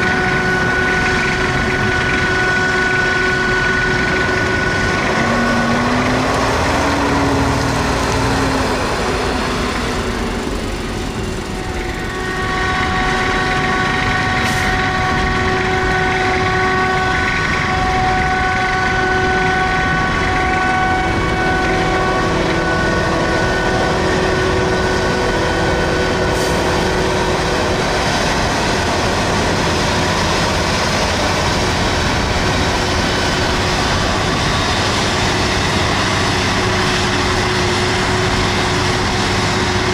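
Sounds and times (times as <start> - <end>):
harvester machine drone: 0.0 - 39.9
multi-tone machine whine: 0.0 - 39.9.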